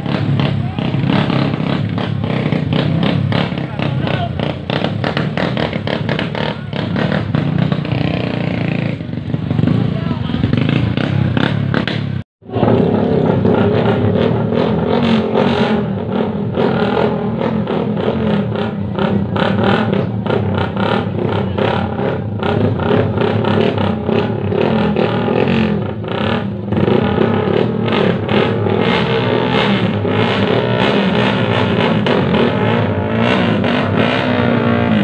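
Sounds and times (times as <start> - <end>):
motorcycle engines revving: 0.0 - 35.0.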